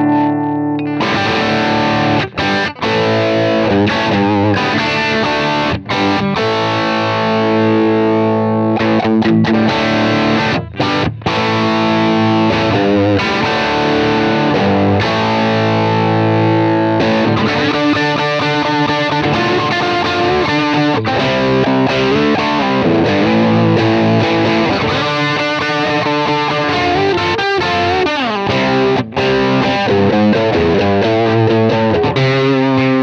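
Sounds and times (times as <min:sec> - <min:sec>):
overdriven electric guitar: 0:00.0 - 0:33.0.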